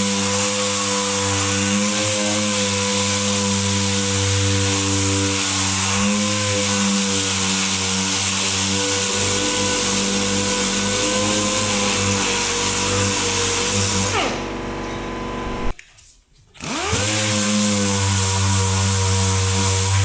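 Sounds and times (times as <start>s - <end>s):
power tool running: 0.0s - 15.8s, 16.6s - 20.0s.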